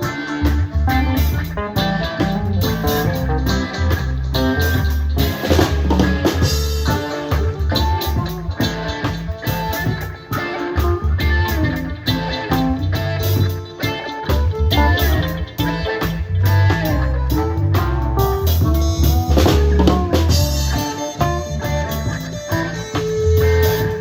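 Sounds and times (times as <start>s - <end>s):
low bass line: 0.0s - 13.6s, 14.3s - 24.0s
drum kit beat: 0.0s - 24.0s
guitar: 0.0s - 24.0s
live band playing: 0.0s - 24.0s.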